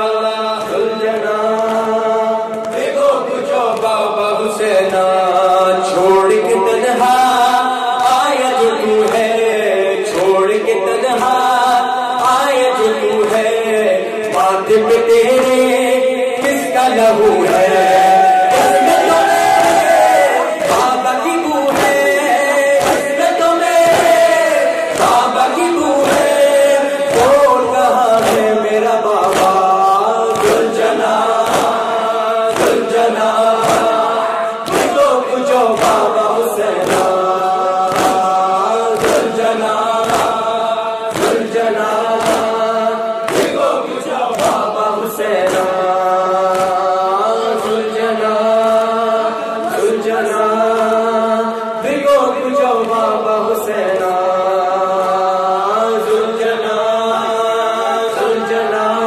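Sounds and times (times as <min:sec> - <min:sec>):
men chanting into microphones: 0:00.0 - 0:59.0
rhythmic chest-beating slaps: 0:00.0 - 0:59.0.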